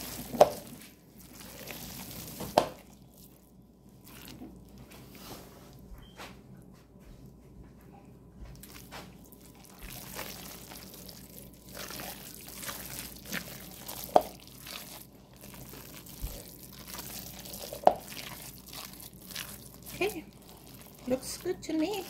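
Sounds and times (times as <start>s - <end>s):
spatula squishing egg salad: 0.0s - 5.8s, 8.5s - 22.0s.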